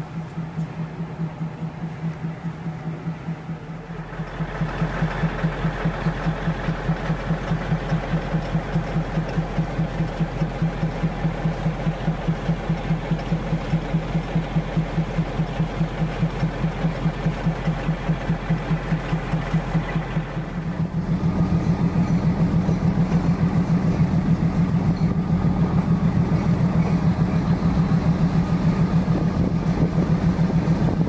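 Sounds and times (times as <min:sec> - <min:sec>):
engine thumping steadily: 0:00.0 - 0:31.0.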